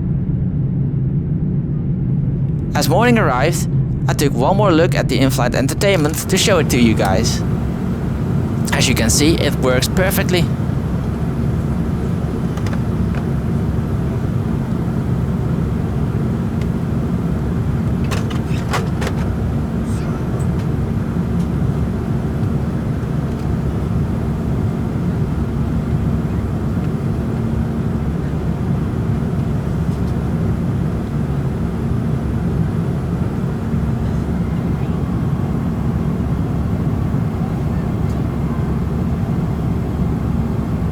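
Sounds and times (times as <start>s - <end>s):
airplane cabin engine rumble: 0.0s - 40.9s
constant low hum: 0.0s - 40.9s.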